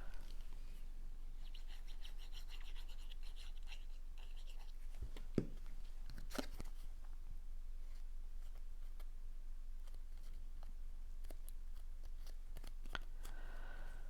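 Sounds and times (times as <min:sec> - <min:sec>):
steady low hum: 0:00.0 - 0:01.8, 0:03.9 - 0:14.0.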